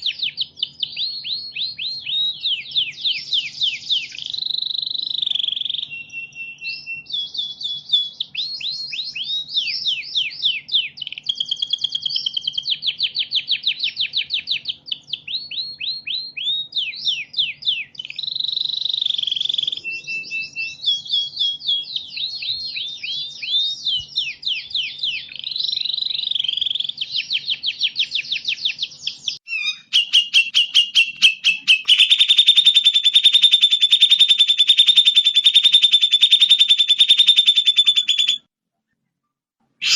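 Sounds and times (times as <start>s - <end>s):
buzzy high bird trill: 0.0s - 38.5s
songbird whistled song: 0.0s - 38.5s.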